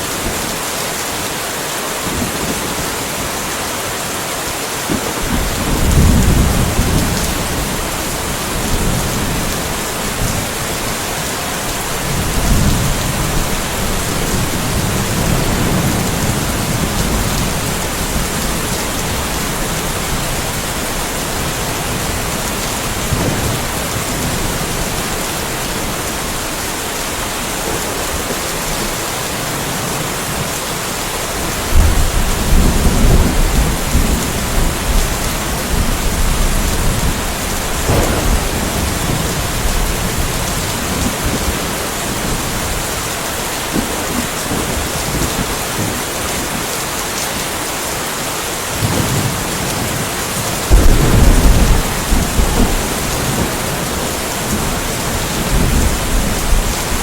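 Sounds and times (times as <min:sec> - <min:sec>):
steady rain: 0:00.0 - 0:57.0
thunder rumbling: 0:04.9 - 0:46.6, 0:48.7 - 0:57.0.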